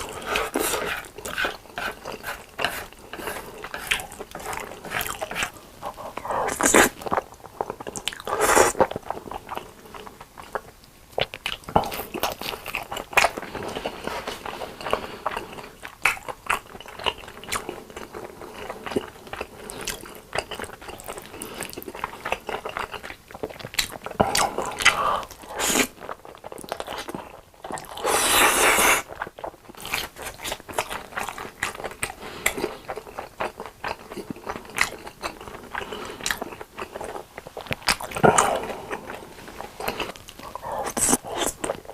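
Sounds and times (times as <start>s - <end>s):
wet chewing: 0.0s - 41.9s.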